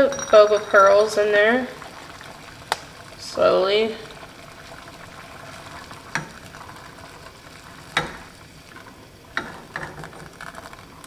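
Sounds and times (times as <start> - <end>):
water boiling and bubbling: 0.0 - 11.0
tapioca pearls pouring: 0.6 - 11.0.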